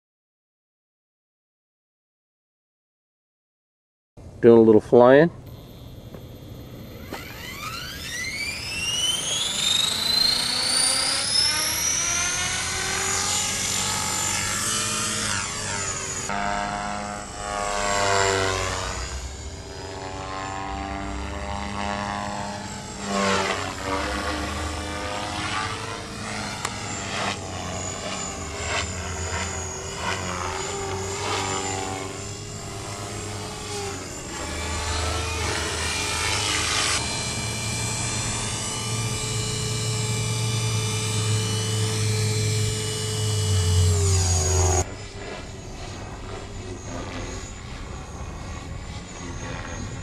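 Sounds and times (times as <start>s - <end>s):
model helicopter rotor whine: 5.4s - 50.0s.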